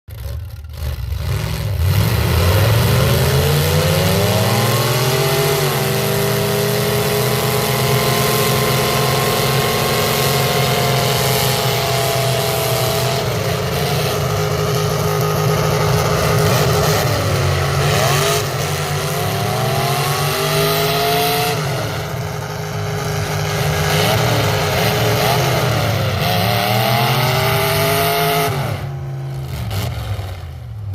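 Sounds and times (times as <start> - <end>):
car engine revving: 0.1 - 30.9.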